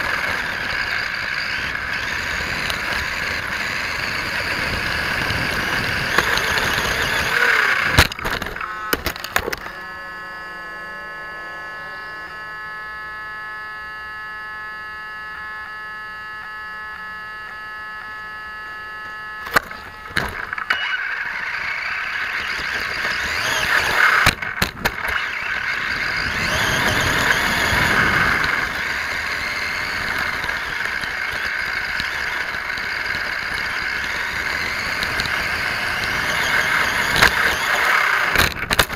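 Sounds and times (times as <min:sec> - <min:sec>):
rc car driving over gravel: 0:00.0 - 0:13.4, 0:14.9 - 0:38.9
electric motor whine: 0:00.0 - 0:38.9.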